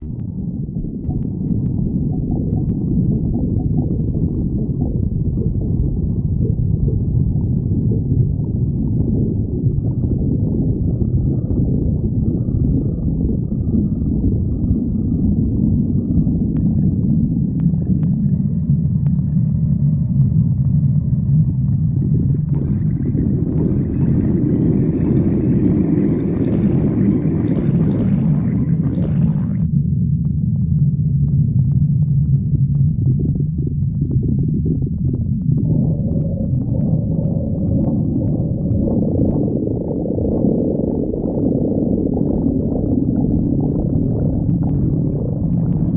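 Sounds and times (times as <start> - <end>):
stomach growling and gurgling: 0.0 - 45.9.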